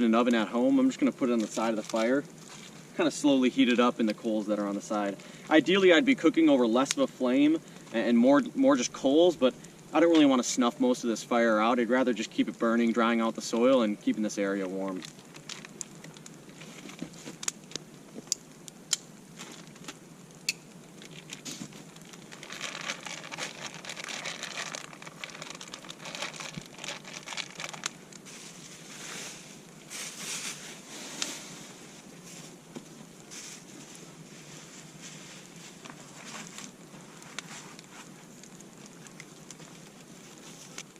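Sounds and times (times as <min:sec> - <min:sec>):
crinkling and rustling: 0:00.0 - 0:08.1, 0:14.4 - 0:18.4, 0:19.2 - 0:40.9
campfire crackling and popping: 0:00.0 - 0:40.9.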